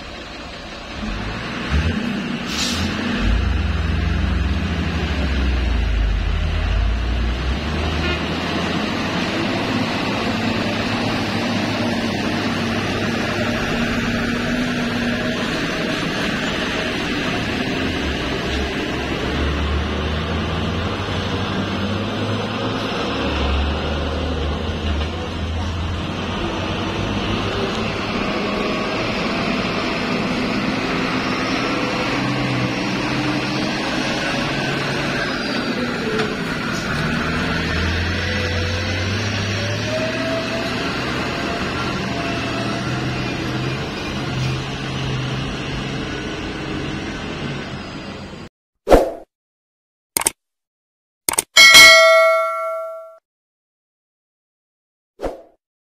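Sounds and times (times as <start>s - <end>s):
hum of trucks: 0.0s - 48.5s
truck passing close by: 0.0s - 48.5s.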